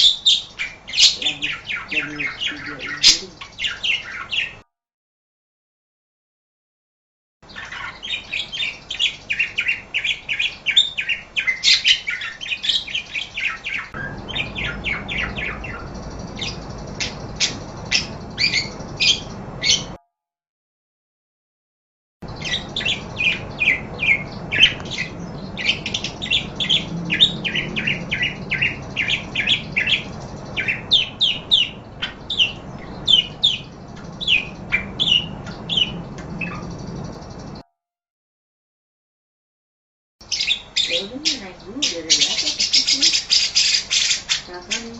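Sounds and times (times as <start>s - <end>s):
parakeets chattering: 0.0s - 4.6s, 7.5s - 20.0s, 22.2s - 37.6s, 40.2s - 44.9s.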